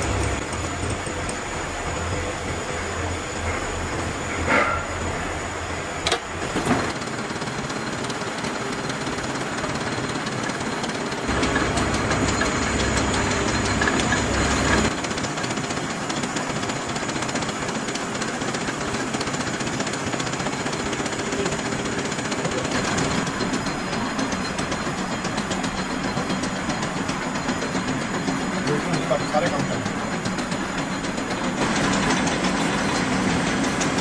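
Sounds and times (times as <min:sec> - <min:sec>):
workshop machinery running: 0:00.0 - 0:34.0.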